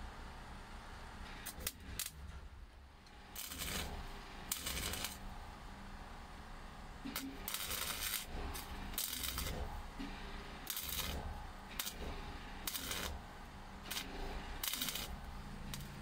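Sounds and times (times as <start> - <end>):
welder crackling: 1.3 - 5.6, 7.0 - 16.0.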